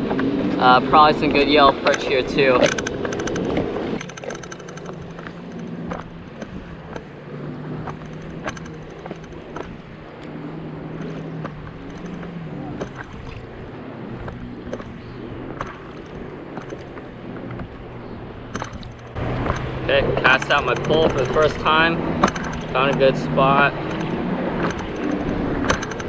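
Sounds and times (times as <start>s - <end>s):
boat motor humming: 0.0s - 26.0s
kayak and fishing gear knocking: 1.3s - 26.0s.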